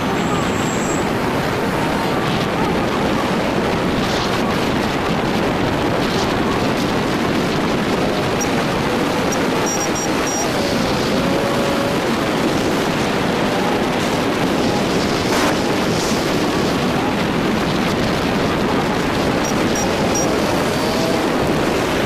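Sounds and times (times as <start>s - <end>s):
motorbike road noise: 0.0s - 22.0s
wind buffeting microphone: 0.0s - 22.0s.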